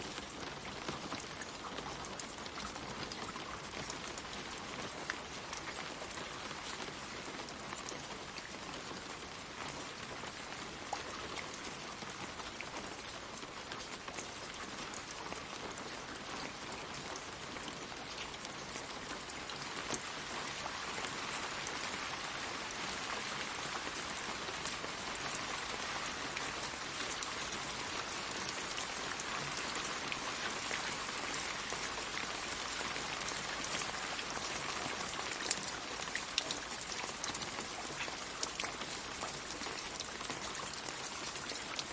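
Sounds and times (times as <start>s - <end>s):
rain falling on leaves: 0.0s - 41.9s.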